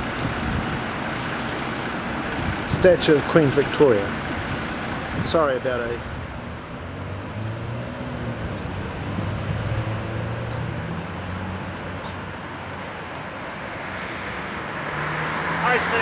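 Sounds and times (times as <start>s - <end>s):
traffic hum: 0.0s - 16.0s.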